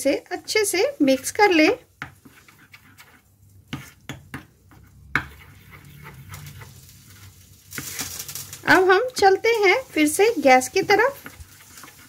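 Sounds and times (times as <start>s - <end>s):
spoon stirring thick batter: 0.0s - 12.0s.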